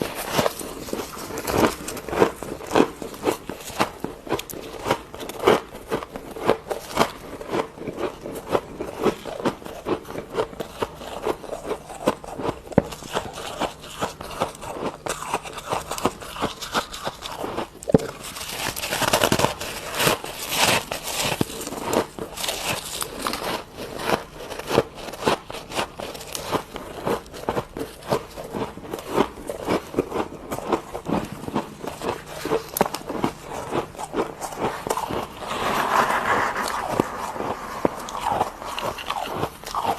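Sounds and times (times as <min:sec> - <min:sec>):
crunching of frost being chewed: 0:00.0 - 0:35.2.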